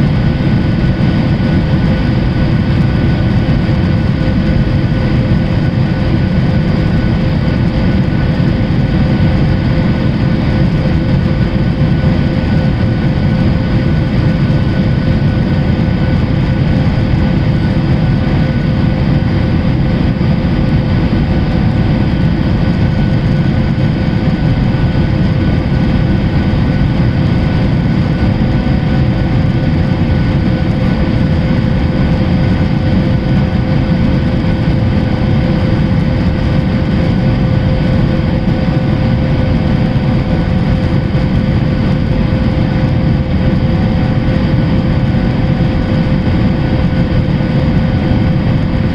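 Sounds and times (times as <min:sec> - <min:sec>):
jet engines droning: 0:00.0 - 0:48.9.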